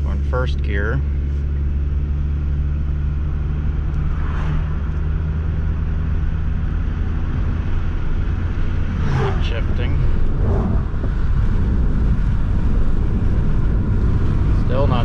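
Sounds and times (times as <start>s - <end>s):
car engine drone: 0.0s - 15.0s
road and wind noise: 0.0s - 15.0s.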